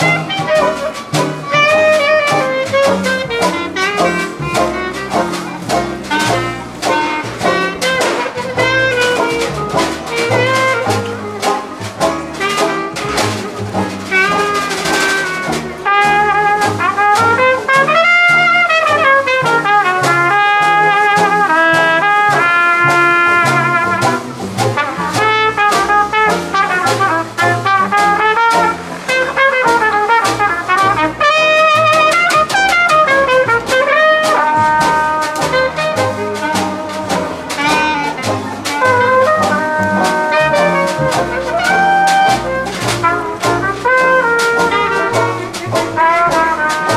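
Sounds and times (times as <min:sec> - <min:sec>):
brass jazz band playing: 0:00.0 - 0:46.9.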